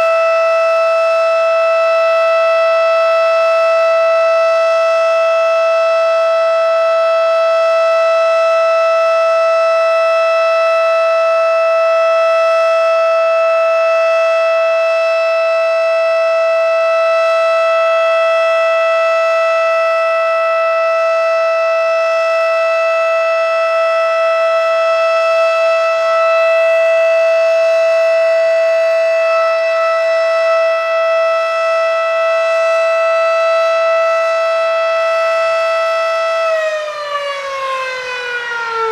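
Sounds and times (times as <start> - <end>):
steady tone warning siren: 0.0 - 38.9.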